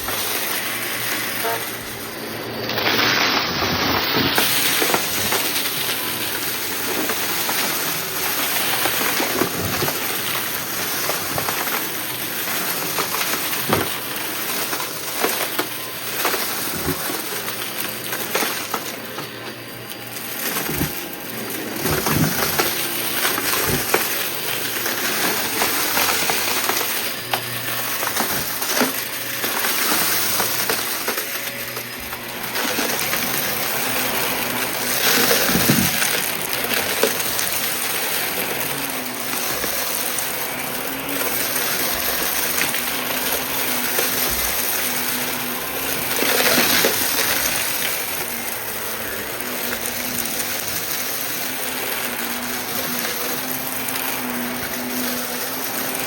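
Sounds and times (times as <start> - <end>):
debris rattling in vacuum: 0.0 - 56.0
upright vacuum cleaner running: 0.0 - 56.0.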